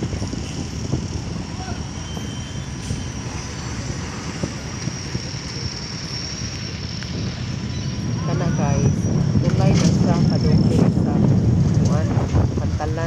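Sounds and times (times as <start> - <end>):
ship engines rumbling: 0.0 - 13.0.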